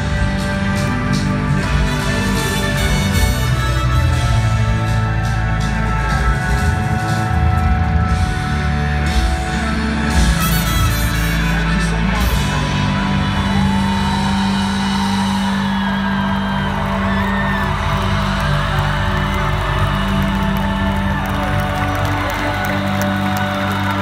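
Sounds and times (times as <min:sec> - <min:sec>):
live band playing loudly: 0:00.0 - 0:24.0.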